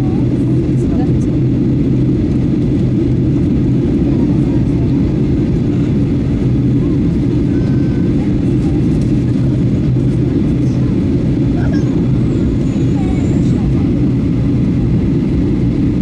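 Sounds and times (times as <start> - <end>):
aircraft cabin engine drone: 0.0 - 16.0.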